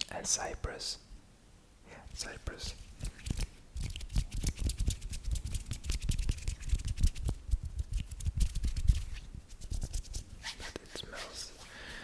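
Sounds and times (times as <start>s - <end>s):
lotioned hands rubbing together: 2.1s - 12.0s.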